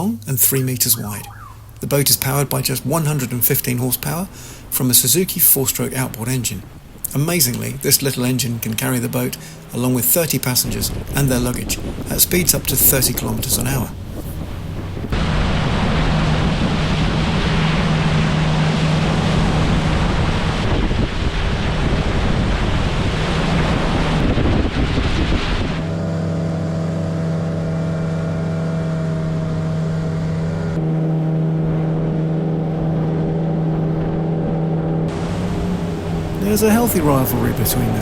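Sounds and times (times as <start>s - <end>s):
outboard motor humming: 0.0s - 38.0s
wind and water rushing: 0.0s - 38.0s.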